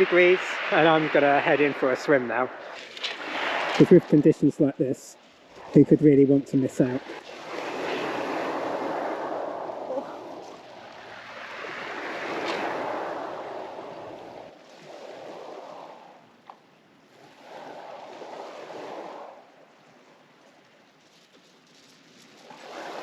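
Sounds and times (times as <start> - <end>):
sea waves washing: 0.0 - 21.3, 21.9 - 23.0.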